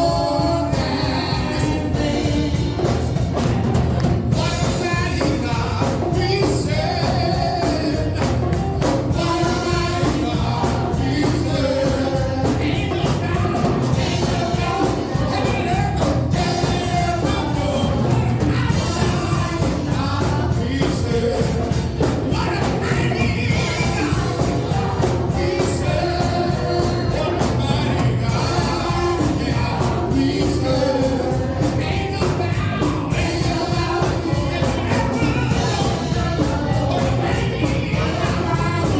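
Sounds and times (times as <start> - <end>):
band with drums: 0.0 - 38.9
gospel singers and choir: 0.0 - 38.9.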